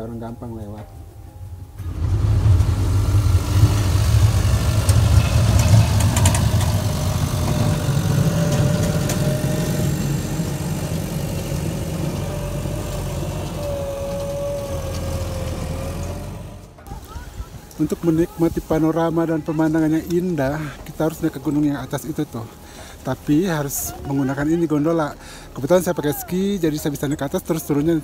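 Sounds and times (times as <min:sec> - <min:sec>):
snow groomer engine rumbling: 0:00.0 - 0:28.0
thin whine: 0:01.3 - 0:27.9.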